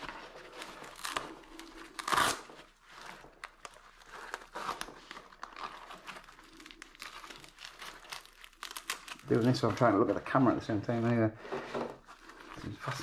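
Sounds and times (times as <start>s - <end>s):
fabric rustling and crinkling: 0.0s - 13.0s.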